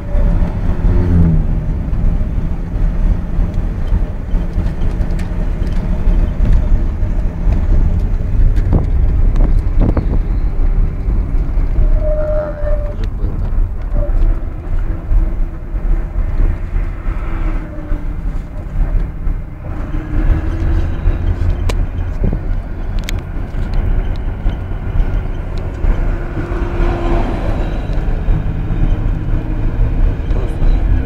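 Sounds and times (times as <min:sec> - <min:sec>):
vehicle engine and tyres rumbling: 0:00.0 - 0:31.0.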